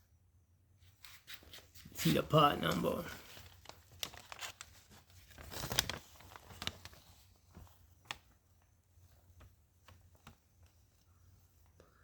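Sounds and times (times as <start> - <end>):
handling rustling and crinkling: 0.8 - 12.0.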